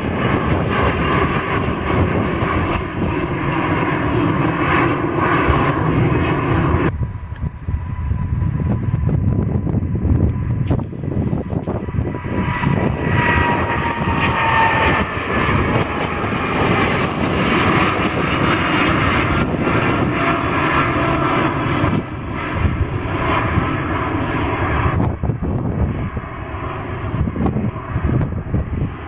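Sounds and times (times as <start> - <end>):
airliner engine roar passing: 0.0 - 29.0.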